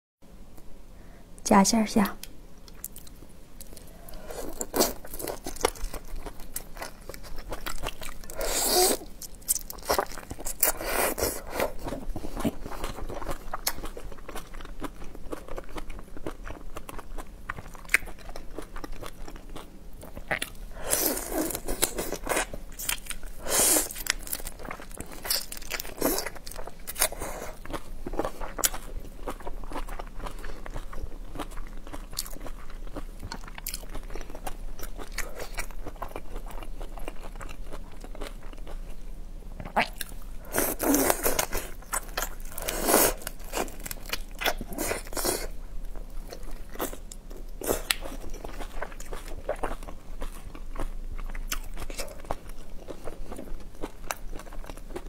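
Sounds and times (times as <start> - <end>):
crunching and chewing shrimp: 2.6 - 55.0.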